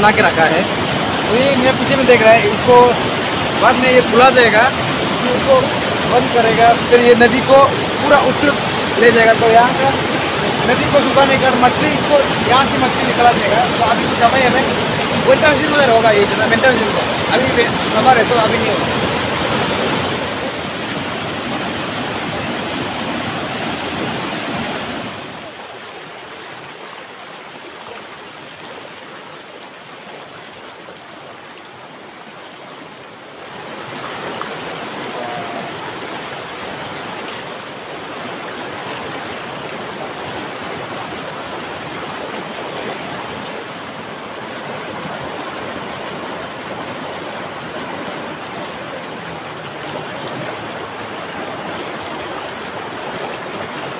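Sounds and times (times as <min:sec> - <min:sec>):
river rushing over rocks: 0:00.0 - 0:53.9.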